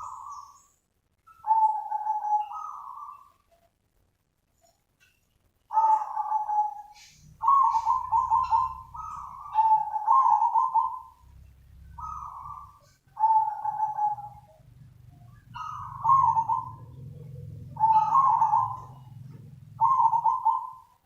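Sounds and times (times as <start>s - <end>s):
dove cooing: 0.0s - 0.6s, 1.3s - 3.4s, 5.7s - 21.0s.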